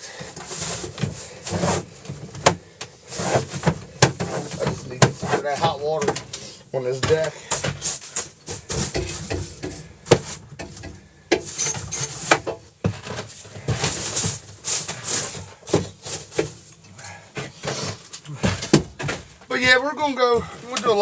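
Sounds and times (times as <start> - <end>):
knocks and scrapes on boat deck: 0.1 - 21.0.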